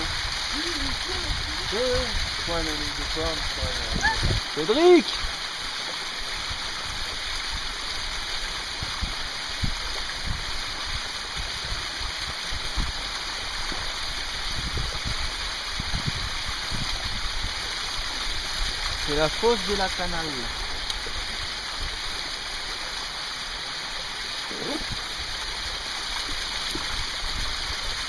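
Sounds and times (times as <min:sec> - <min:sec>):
stream water splashing over rocks: 0:00.0 - 0:28.0.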